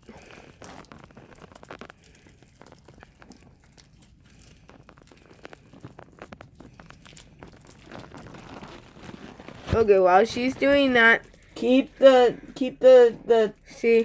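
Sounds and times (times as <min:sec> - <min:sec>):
faint crinkling and crackles: 0:00.0 - 0:14.0.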